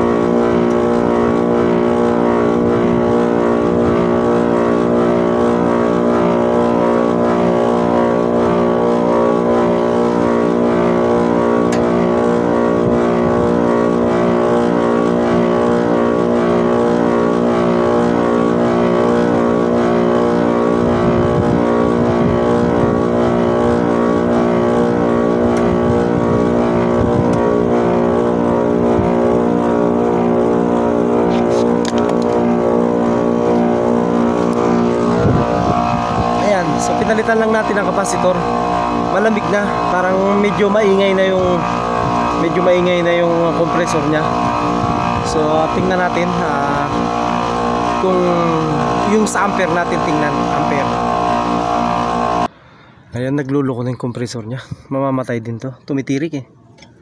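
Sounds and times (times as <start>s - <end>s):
air conditioner compressor humming: 0.0s - 52.7s.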